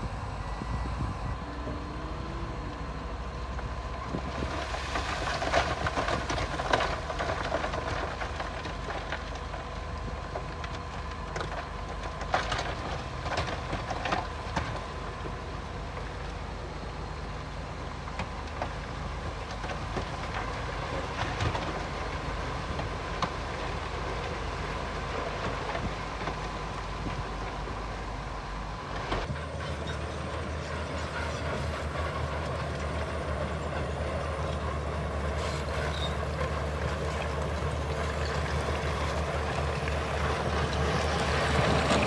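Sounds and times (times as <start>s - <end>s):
bulldozer diesel engine running: 0.0s - 42.0s
clanking and rattling of tracks and rocks: 0.0s - 42.0s.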